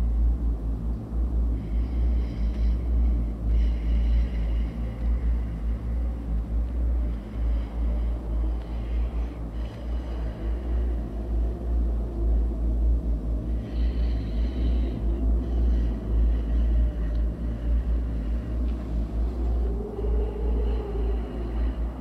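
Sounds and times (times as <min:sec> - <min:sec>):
deep low drone: 0:00.0 - 0:22.0.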